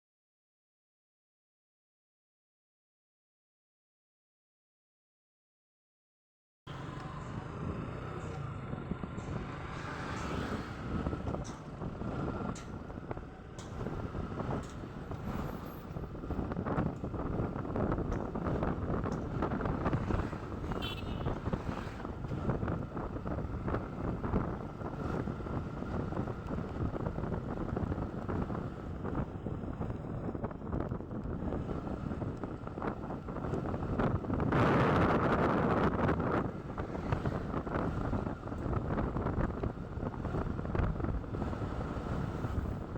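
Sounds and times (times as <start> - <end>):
motorcycle engine and road rumble: 6.7 - 42.9
wind rushing over microphone: 7.4 - 42.9.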